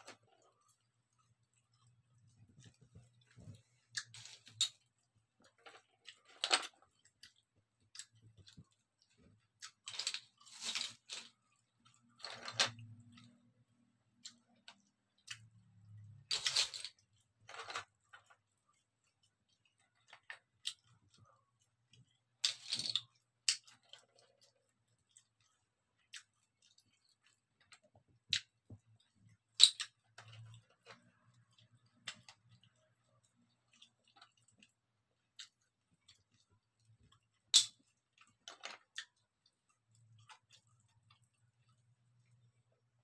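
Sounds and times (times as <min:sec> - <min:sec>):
chewing: 0:00.0 - 0:09.9, 0:17.0 - 0:22.4, 0:23.0 - 0:42.9.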